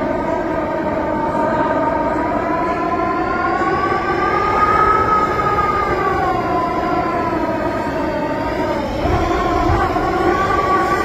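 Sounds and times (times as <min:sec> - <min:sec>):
storm wind howling: 0:00.0 - 0:11.0
wind whistling: 0:00.0 - 0:11.0.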